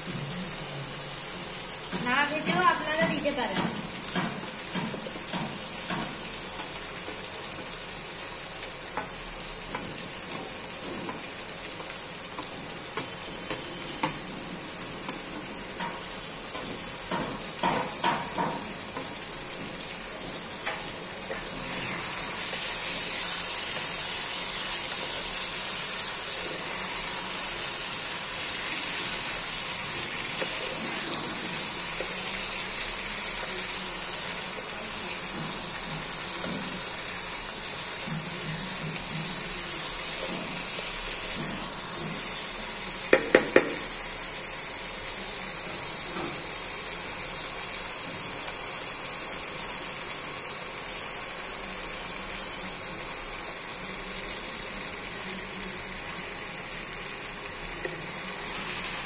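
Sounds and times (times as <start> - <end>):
curry sizzling: 0.0 - 59.0.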